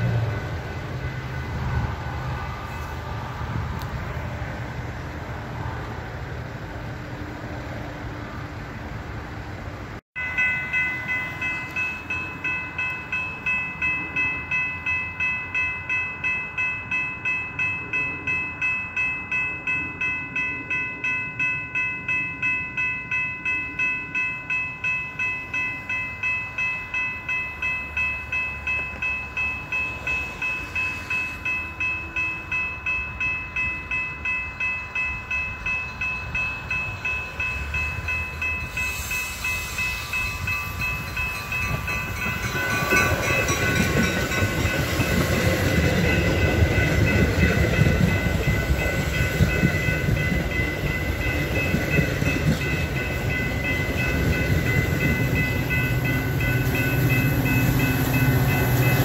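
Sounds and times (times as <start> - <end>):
crossing bell ringing: 0.0 - 5.8, 10.2 - 59.0
low train rumble: 0.0 - 59.0.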